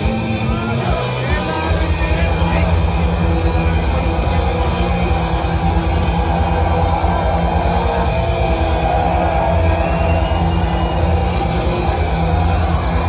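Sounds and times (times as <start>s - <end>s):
heavy metal band playing live: 0.0s - 13.0s.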